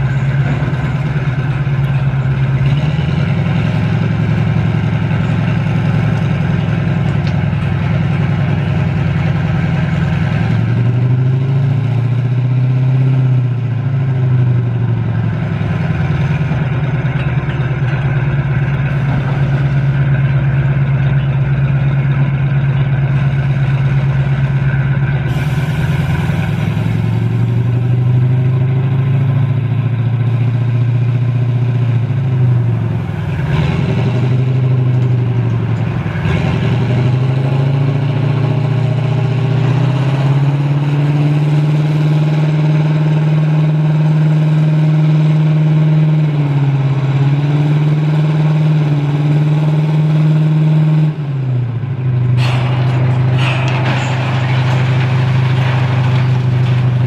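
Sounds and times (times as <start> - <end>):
diesel engine running hard: 0.0 - 57.0.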